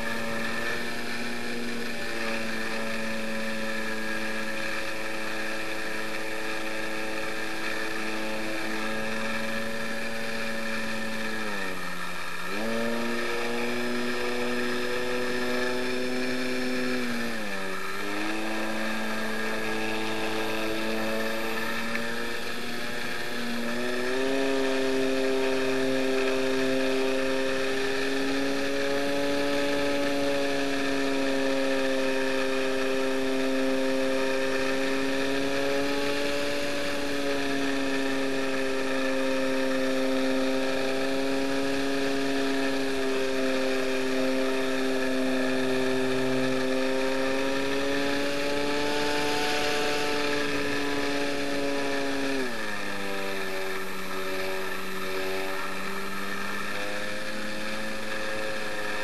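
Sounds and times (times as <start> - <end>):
model airplane motor droning: 0.0 - 59.0.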